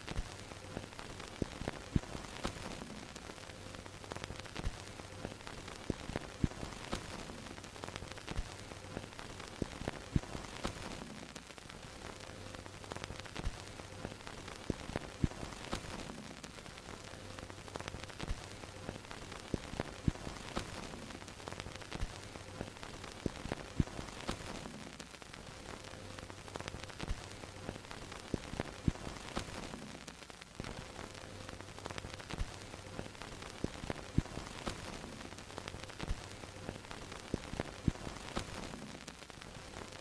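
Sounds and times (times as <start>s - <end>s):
crackles and pops: 0.0s - 40.0s
film projector hiss: 0.0s - 40.0s.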